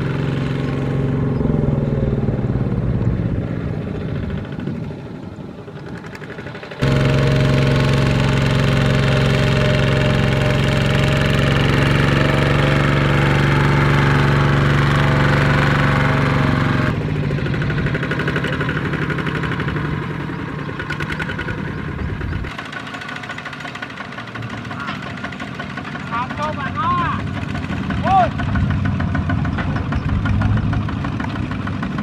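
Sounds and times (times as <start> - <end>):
clattering tractor engine: 0.0 - 32.0
diesel engine running: 0.0 - 32.0.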